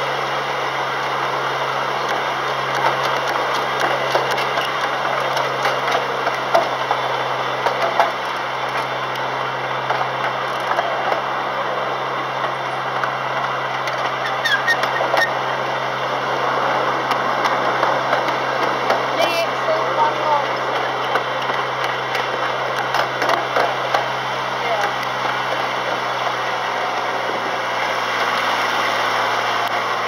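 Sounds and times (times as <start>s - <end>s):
low engine drone: 0.0s - 30.0s
wheels rumbling on rail: 0.0s - 30.0s.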